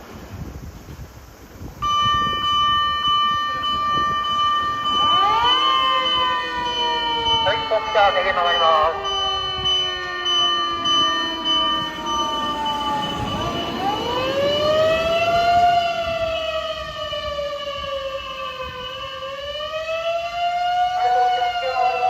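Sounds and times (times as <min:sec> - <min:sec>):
mechanical motor siren: 0:01.8 - 0:22.0.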